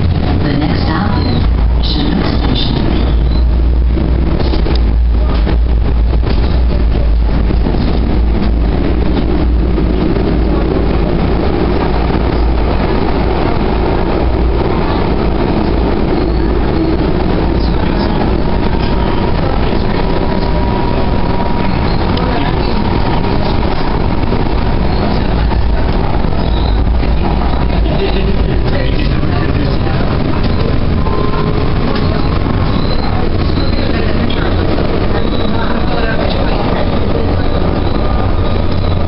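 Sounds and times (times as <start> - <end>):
light rail wheels rumbling: 0.0 - 39.0.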